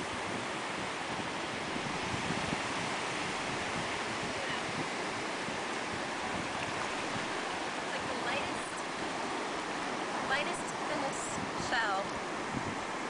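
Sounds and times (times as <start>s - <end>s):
ocean surf washing: 0.0s - 13.0s
wind buffeting microphone: 0.0s - 13.0s.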